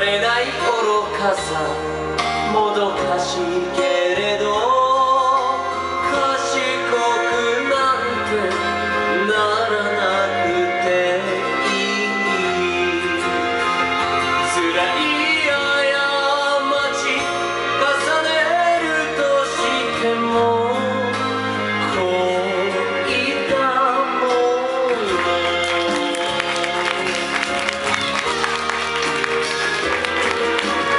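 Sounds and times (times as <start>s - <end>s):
instrumental accompaniment: 0.0s - 30.9s.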